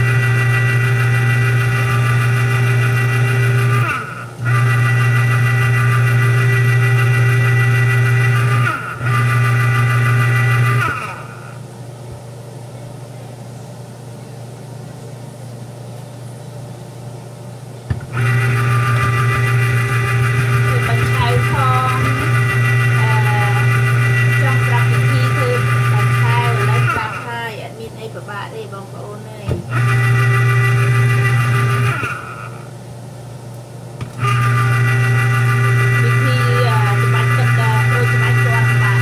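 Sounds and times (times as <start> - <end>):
electric juicer motor humming: 0.0 - 11.7, 17.8 - 39.0.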